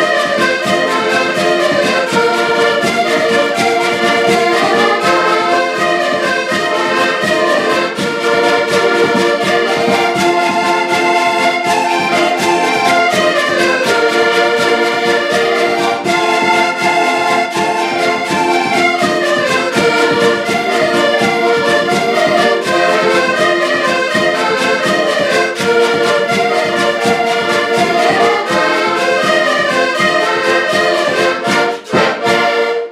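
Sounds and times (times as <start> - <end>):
button accordions playing: 0.0 - 32.9.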